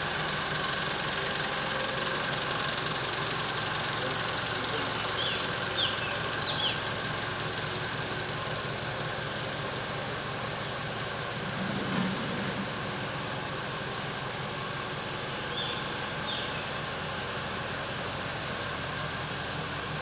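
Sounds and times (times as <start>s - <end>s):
bus diesel engine idling: 0.0s - 20.0s.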